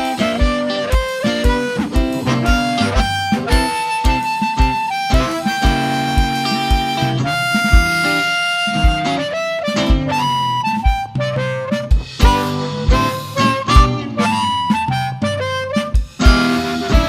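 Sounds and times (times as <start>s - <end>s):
kick drum beat: 0.0s - 9.2s, 9.8s - 11.2s, 11.9s - 17.0s
guitar: 0.0s - 17.0s
harmonica wailing: 0.0s - 17.0s.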